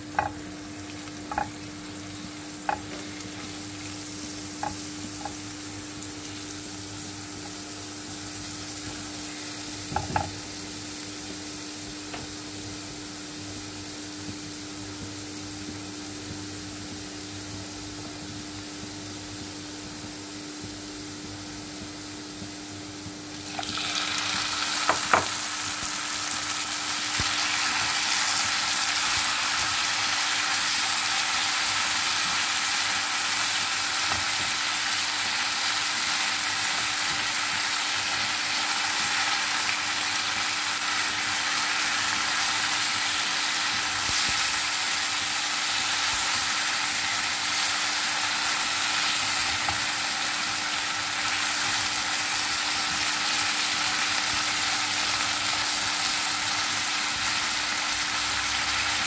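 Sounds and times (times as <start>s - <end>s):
oil bubbling in frying pan: 0.0s - 59.0s
shrimp sizzling in hot oil: 0.0s - 59.0s.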